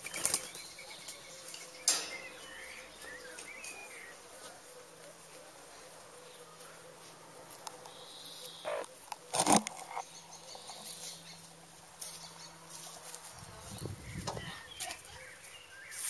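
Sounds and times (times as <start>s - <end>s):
faint outdoor background: 0.0s - 16.0s
hens tapping and scuffing: 0.0s - 16.0s.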